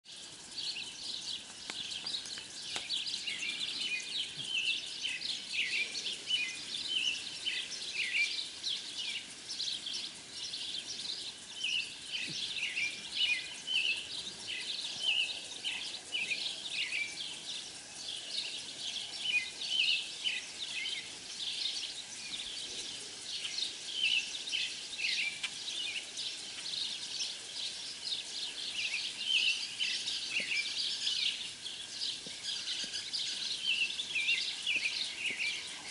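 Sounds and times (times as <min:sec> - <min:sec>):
small songbirds chirping: 0:00.0 - 0:35.9.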